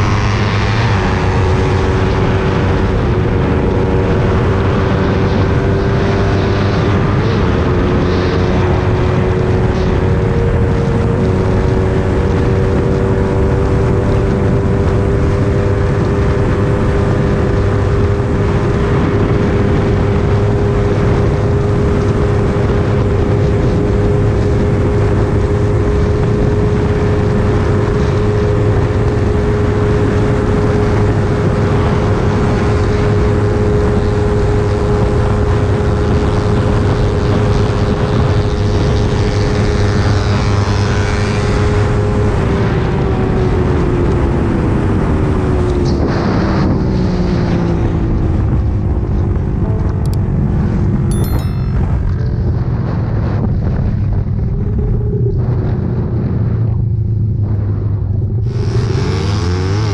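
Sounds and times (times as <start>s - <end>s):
motorcycle engine running hard: 0.0s - 59.9s
wind rushing over microphone: 0.0s - 59.9s.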